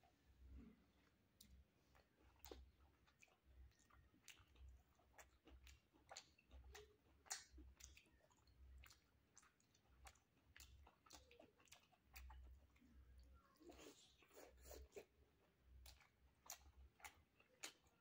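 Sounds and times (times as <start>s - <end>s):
close chewing with mouth clicks: 0.0s - 18.0s.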